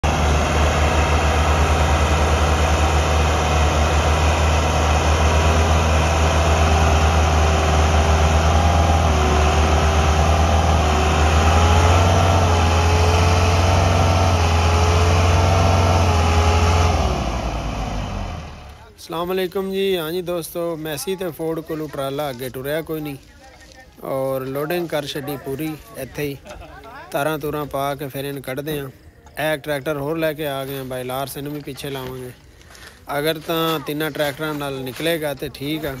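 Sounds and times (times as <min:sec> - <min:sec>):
tractor diesel engine straining: 0:00.0 - 0:23.2, 0:27.2 - 0:36.0.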